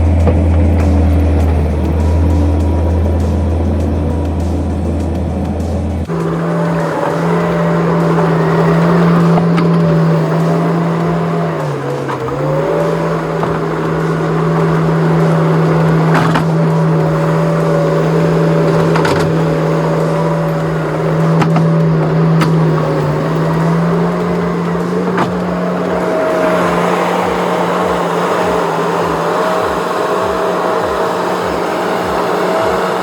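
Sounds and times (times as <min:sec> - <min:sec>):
skid steer engine running: 0:00.0 - 0:33.0.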